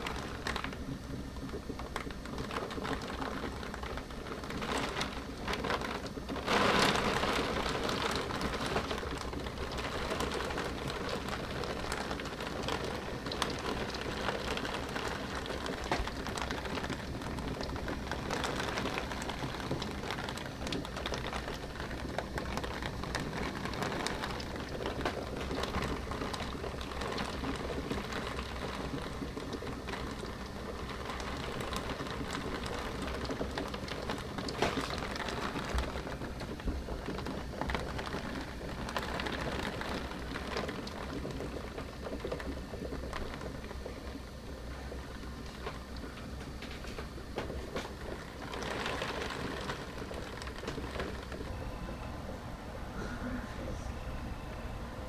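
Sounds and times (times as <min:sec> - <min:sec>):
heavy rain on a window: 0:00.0 - 0:55.0.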